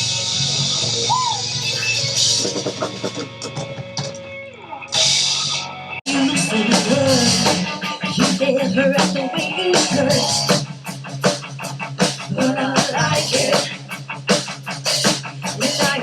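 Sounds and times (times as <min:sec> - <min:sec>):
drum kit: 0:00.0 - 0:16.0
electric guitar: 0:00.0 - 0:16.0.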